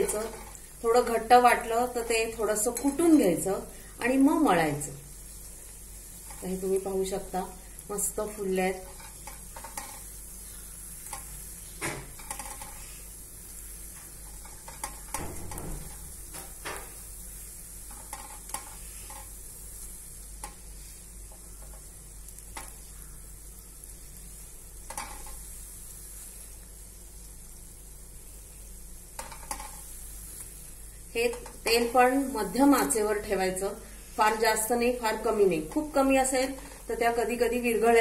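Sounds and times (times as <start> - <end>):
food sizzling in hot oil: 0.0 - 38.0.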